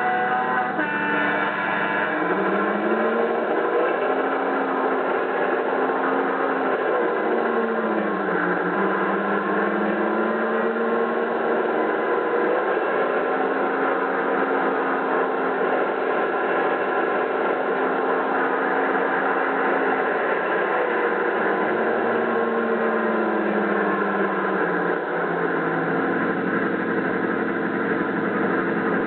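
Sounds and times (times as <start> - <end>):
diesel engine sound through speaker: 0.0 - 29.0.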